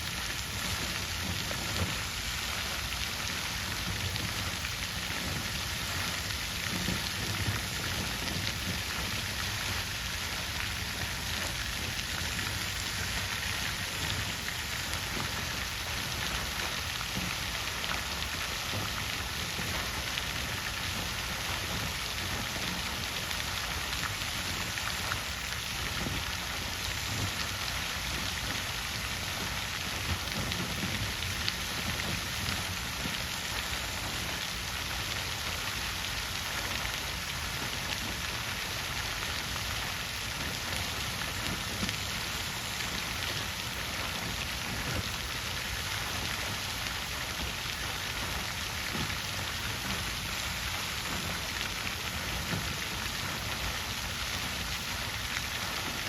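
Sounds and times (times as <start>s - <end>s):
water fountain splashing: 0.0s - 56.0s.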